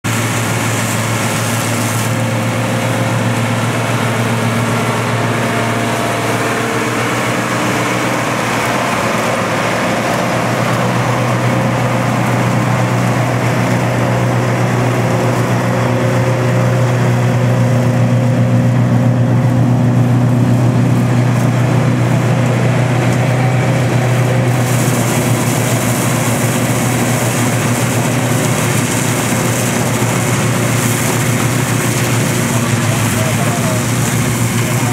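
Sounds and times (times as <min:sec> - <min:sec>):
forage harvester chopping grass: 0:00.0 - 0:34.9
tractor diesel engine under load: 0:00.0 - 0:34.9.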